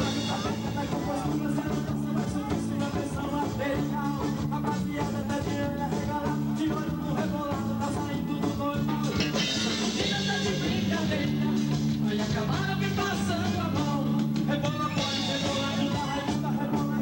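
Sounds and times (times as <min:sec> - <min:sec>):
dance band music: 0:00.0 - 0:17.0.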